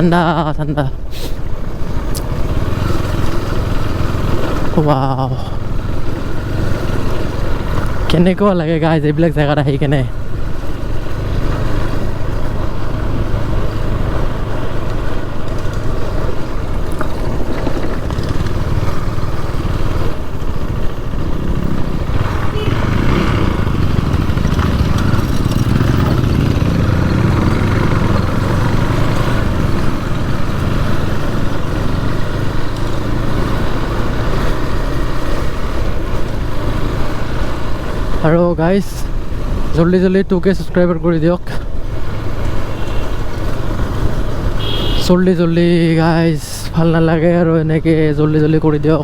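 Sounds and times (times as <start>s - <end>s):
motorcycle engine running: 0.0s - 40.0s, 41.6s - 49.0s
wind and road noise: 0.0s - 49.0s.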